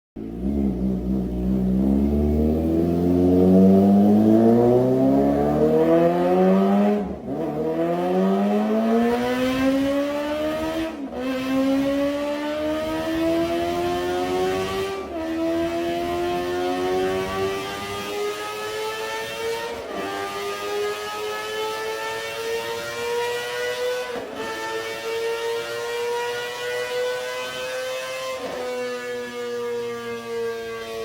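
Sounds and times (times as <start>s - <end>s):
motorcycle engine accelerating: 0.2s - 31.0s.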